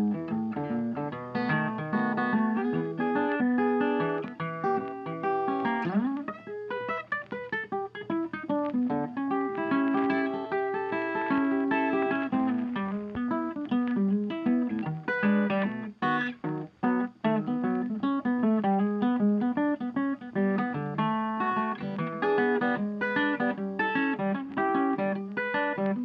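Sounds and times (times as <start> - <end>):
plucked acoustic guitar: 0.0 - 26.0.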